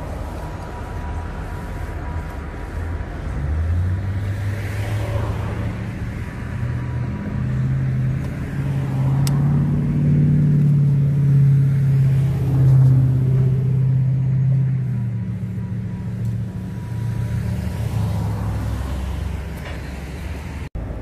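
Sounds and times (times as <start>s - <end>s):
rumble of train cars: 0.0s - 9.3s, 10.8s - 21.0s
diesel locomotive engine drone: 0.0s - 21.0s.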